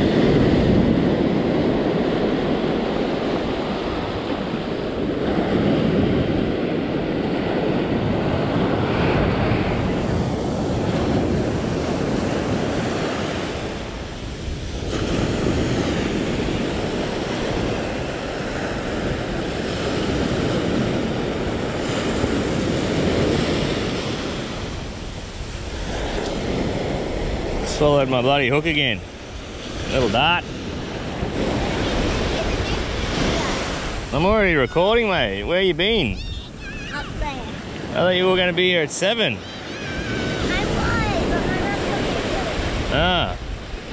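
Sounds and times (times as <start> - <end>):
ocean surf breaking: 0.0 - 43.9
wind buffeting microphone: 0.0 - 43.9.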